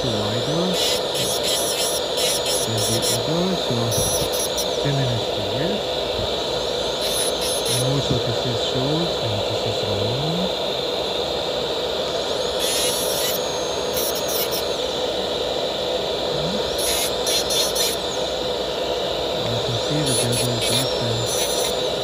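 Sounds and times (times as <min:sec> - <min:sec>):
dental handpiece whining: 0:00.0 - 0:09.2, 0:12.1 - 0:22.0
high-pitched grinding: 0:00.0 - 0:10.5, 0:12.2 - 0:15.3, 0:16.2 - 0:22.0.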